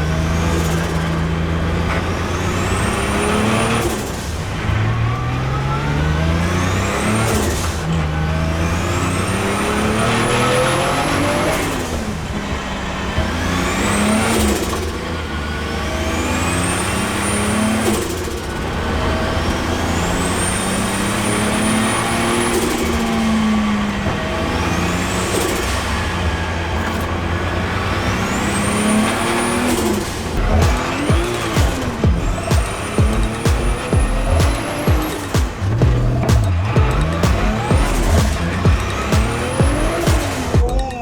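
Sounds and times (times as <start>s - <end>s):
turbocharged engine accelerating: 0.0s - 41.0s.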